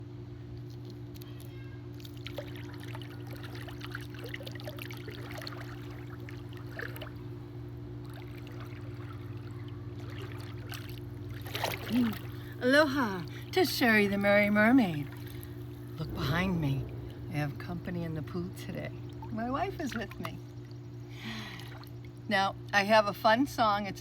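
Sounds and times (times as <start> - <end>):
steady low hum: 0.0 - 24.0
pool water trickling and lapping: 0.6 - 24.0
small water splashes: 0.8 - 13.5, 14.1 - 22.3.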